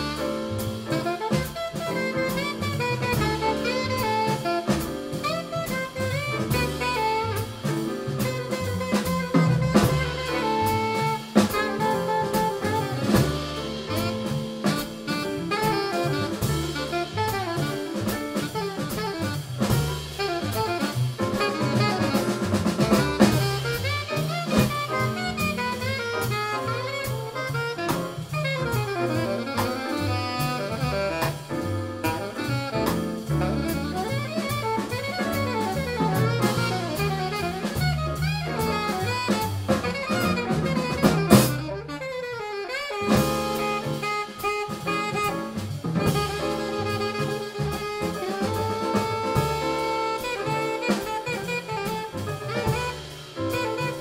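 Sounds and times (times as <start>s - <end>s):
alto saxophone solo: 0.0s - 54.0s
small-group jazz band: 0.0s - 54.0s.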